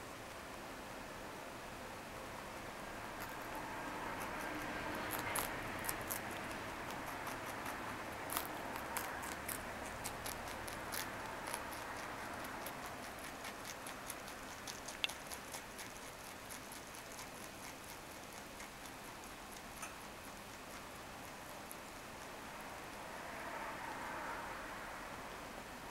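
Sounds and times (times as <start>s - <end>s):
rabbit chewing crunchy leaves: 2.4s - 24.9s.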